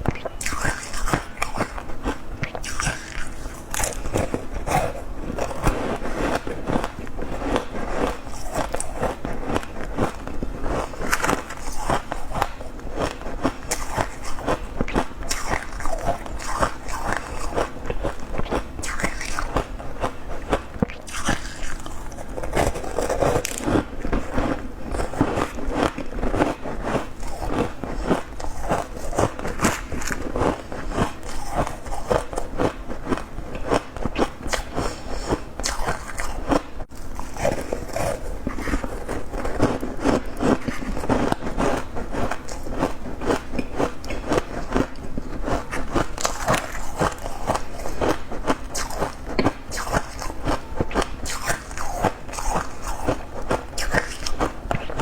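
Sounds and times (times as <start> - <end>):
person chewing crunchy ice: 0.0 - 55.0.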